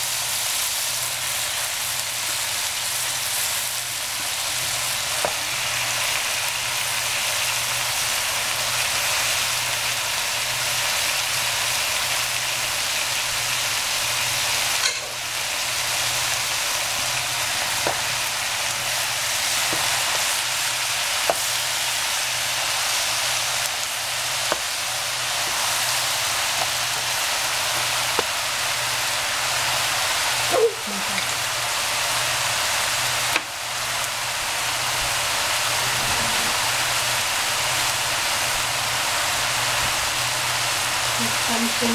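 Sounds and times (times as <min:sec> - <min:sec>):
vegetables sizzling in oil: 0:00.0 - 0:41.9.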